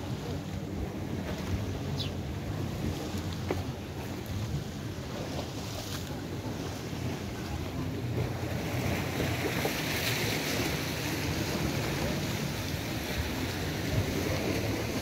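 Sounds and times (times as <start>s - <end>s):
waves washing against rocks: 0.0s - 15.0s
wind rumbling on microphone: 0.0s - 15.0s.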